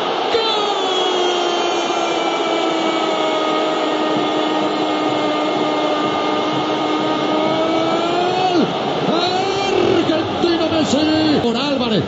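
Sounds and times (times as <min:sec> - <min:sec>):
stadium crowd roaring: 0:00.0 - 0:12.0.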